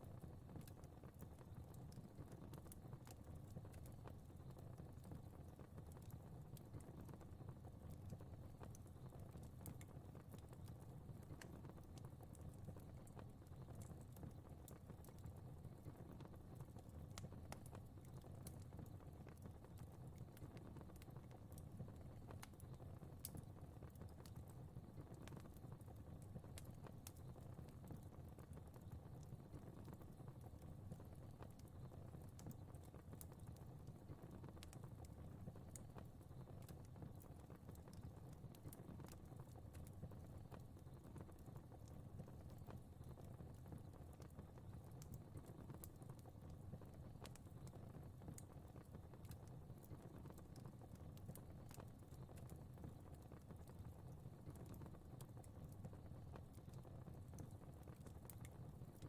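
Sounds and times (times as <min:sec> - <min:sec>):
fire crackling and popping: 0:00.0 - 0:59.0
low rumble of burning: 0:00.0 - 0:59.0.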